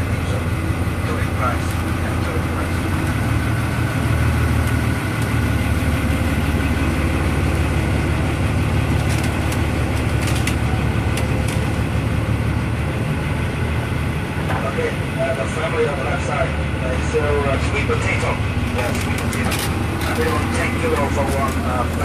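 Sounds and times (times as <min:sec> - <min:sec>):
boat diesel engine droning: 0:00.0 - 0:22.0.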